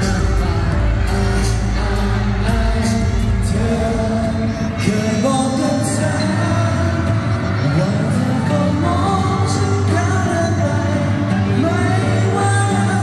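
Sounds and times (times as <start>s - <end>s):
live pop song with singing: 0.0s - 13.0s.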